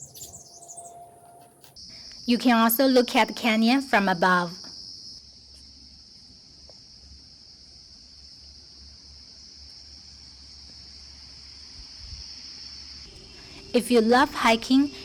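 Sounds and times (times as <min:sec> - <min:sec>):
high-pitched insect chorus: 0:01.7 - 0:15.0.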